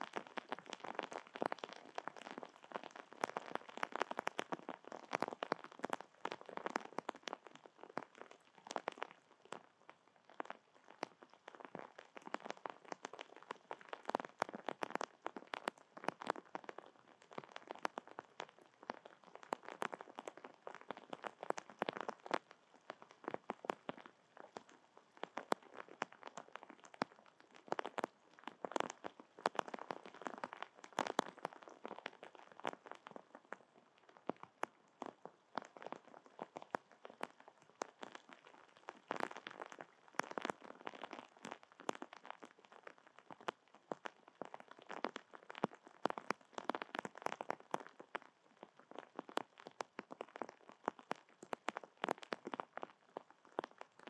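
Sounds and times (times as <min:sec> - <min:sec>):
rain drops tapping: 0:00.3 - 0:09.2, 0:10.3 - 0:54.0.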